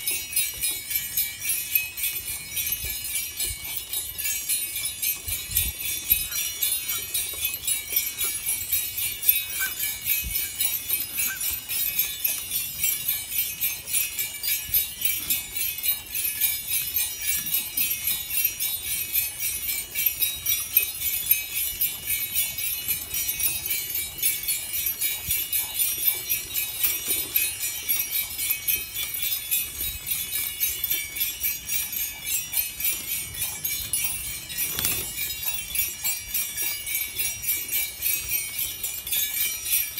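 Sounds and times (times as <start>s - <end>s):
small bells jingling: 0.0s - 39.9s.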